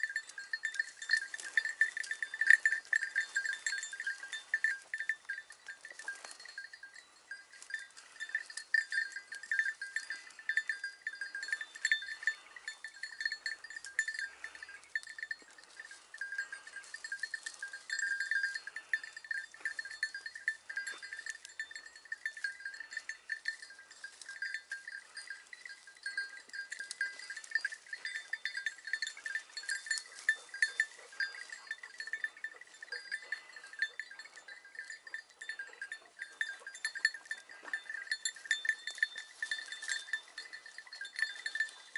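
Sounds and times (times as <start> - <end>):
small metal bell jingling: 0.0 - 41.9.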